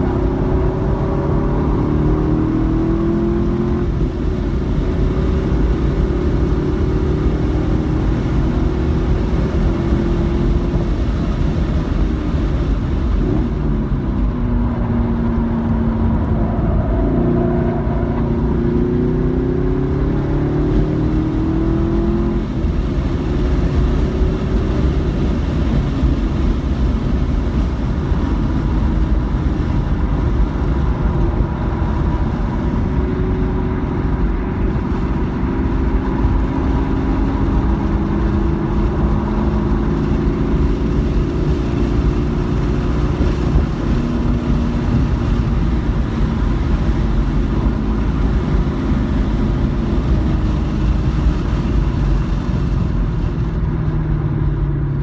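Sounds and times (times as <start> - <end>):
car engine revving in cabin: 0.0 - 55.0
road and wind noise: 0.0 - 55.0.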